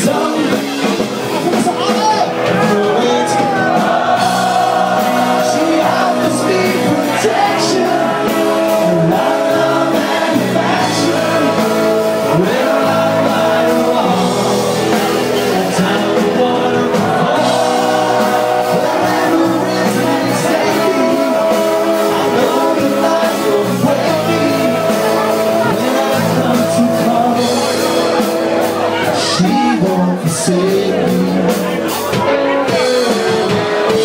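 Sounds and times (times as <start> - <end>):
live rock band playing: 0.0 - 34.0
vocalist singing: 0.0 - 34.0.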